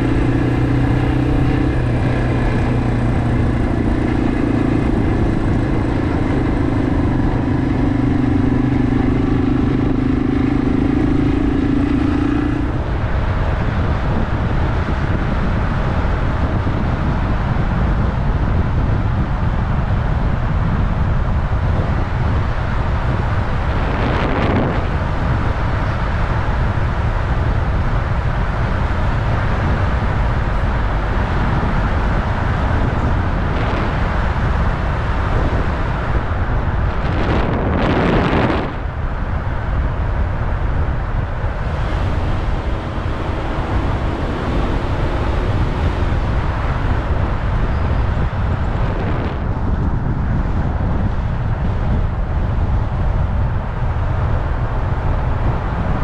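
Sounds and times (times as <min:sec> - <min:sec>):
motorcycle engine: 0:00.0 - 0:18.4, 0:21.3 - 0:51.4
wind rush on microphone: 0:00.0 - 0:56.0.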